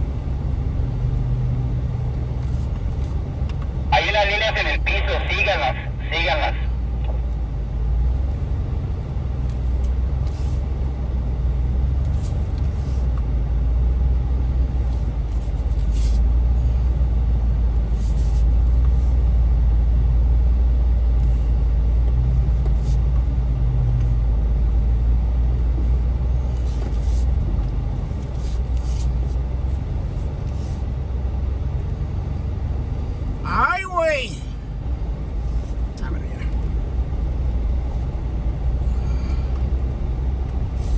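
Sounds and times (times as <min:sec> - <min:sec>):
engine low drone: 0:00.0 - 0:40.9.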